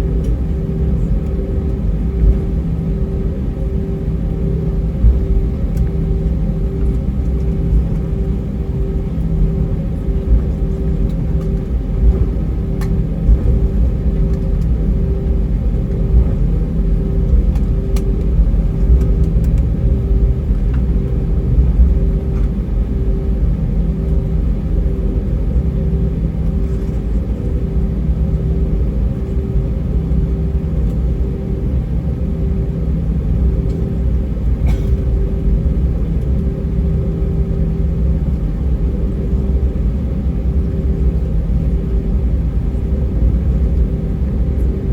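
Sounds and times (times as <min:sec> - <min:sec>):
aircraft engines rumbling: 0:00.0 - 0:44.9
pulsing hum: 0:00.0 - 0:44.9.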